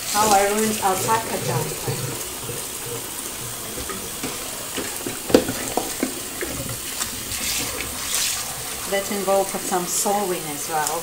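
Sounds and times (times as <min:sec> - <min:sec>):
hands squeezing wet jumper: 0:00.0 - 0:09.7
small water splashes: 0:00.0 - 0:10.1
tap water running into basin: 0:00.0 - 0:11.0.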